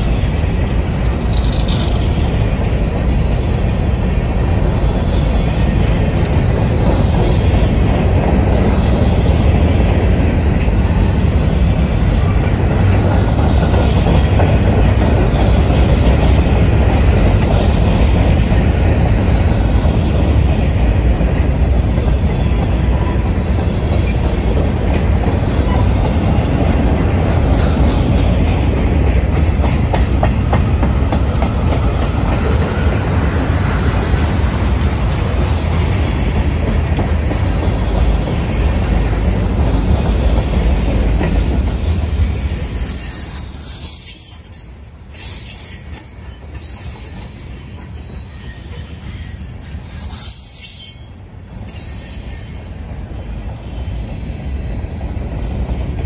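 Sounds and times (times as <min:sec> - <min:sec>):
freight train rumbling by: 0:00.0 - 0:56.0.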